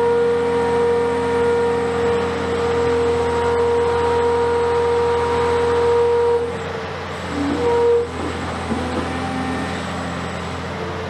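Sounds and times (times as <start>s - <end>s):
excavator engine hum: 0.0s - 11.0s.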